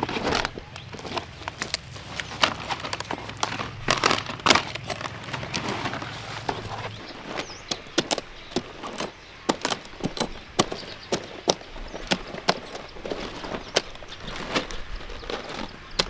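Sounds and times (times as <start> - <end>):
wood knocking and cracking: 0.0 - 16.0.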